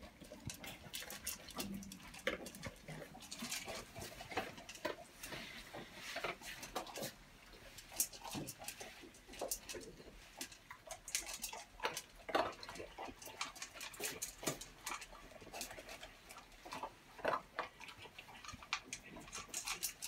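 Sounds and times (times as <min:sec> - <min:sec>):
dogs crunching food in metal bowls: 0:00.0 - 0:20.0.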